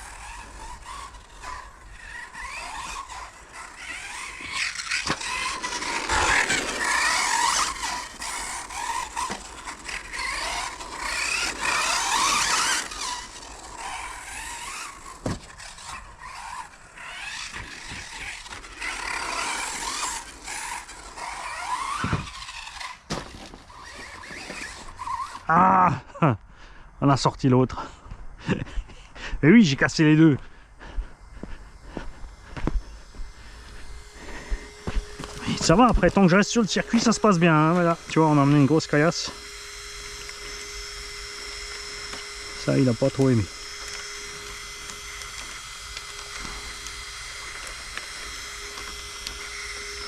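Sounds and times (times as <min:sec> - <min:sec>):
tyres scrubbing on carpet: 0:00.0 - 0:25.4, 0:31.4 - 0:50.0
electric motor whining: 0:00.0 - 0:26.0, 0:30.0 - 0:50.0.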